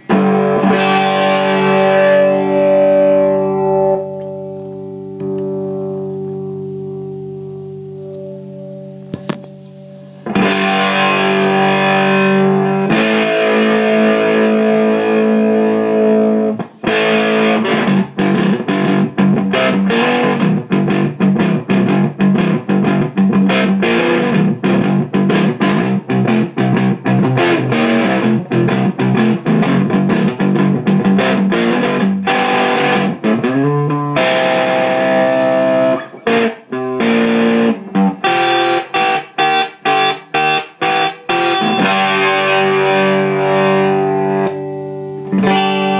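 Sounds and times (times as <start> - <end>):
overdriven electric guitar: 0.0 - 45.9.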